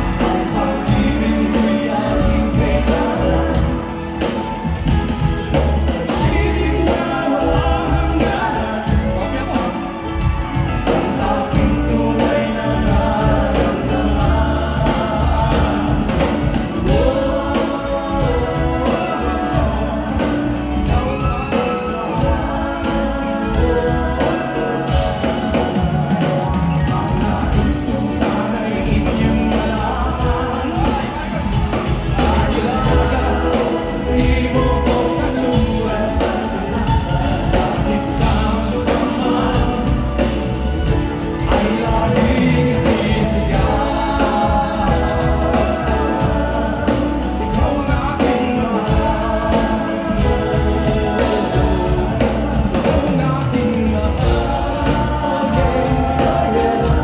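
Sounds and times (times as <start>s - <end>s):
backing vocals: 0.0s - 57.0s
lead singer: 0.0s - 57.0s
live band music: 0.0s - 57.0s
steady drum beat: 0.0s - 57.0s.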